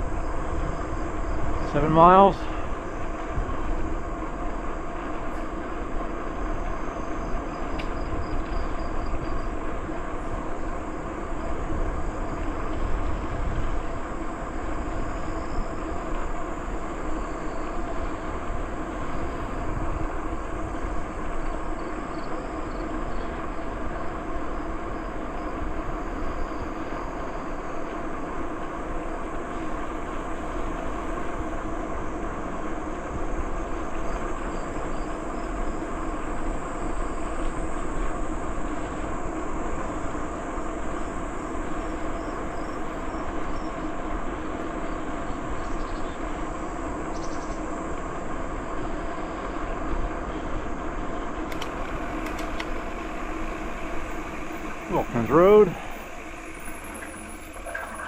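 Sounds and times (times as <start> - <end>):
wind rumble on microphone: 0.0 - 54.9
bicycle tyres rolling on trail: 0.0 - 58.0.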